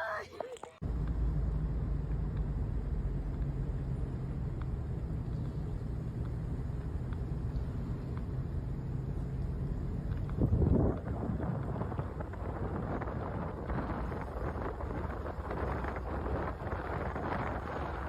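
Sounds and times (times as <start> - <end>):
low rumble with hum: 0.8 - 18.0.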